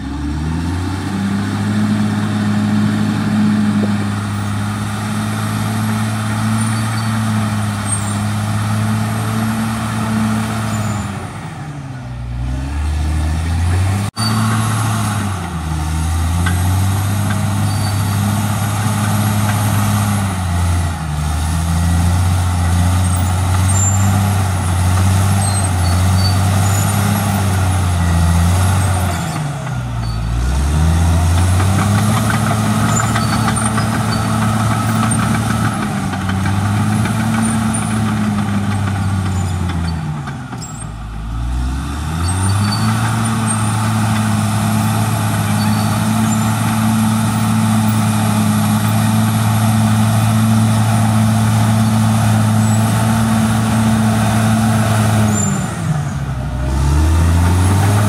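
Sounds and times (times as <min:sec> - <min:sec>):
dozer diesel engine running hard: 0:00.0 - 0:58.0.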